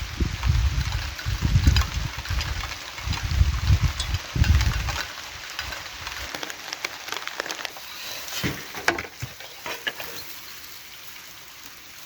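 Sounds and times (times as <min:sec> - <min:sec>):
fire crackling and popping: 0:00.0 - 0:12.0
food sizzling over fire: 0:00.0 - 0:12.0.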